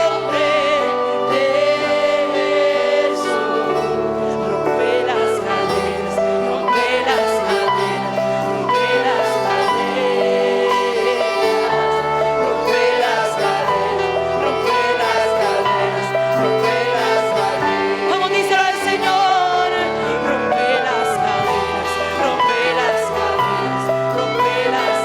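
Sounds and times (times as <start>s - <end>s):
band playing sustained chords: 0.0s - 25.0s
person singing: 0.0s - 25.0s.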